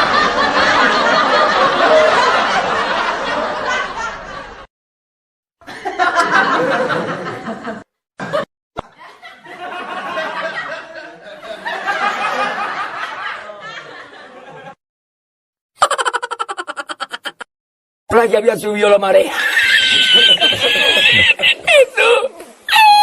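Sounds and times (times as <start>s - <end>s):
comedy laughter: 0.0s - 4.7s, 5.6s - 14.8s, 15.8s - 17.5s, 19.3s - 23.0s.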